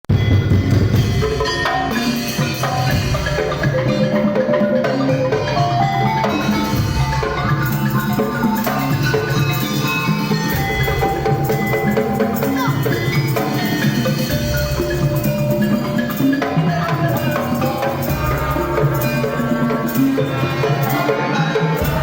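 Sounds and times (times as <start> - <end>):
drums beating a steady rhythm: 0.0 - 22.0
melodic mallet percussion: 0.1 - 22.0.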